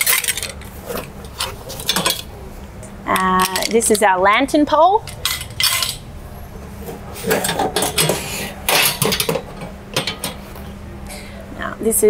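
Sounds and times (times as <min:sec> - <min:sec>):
metal poles and shelving clattering: 0:00.0 - 0:02.4, 0:03.1 - 0:10.7.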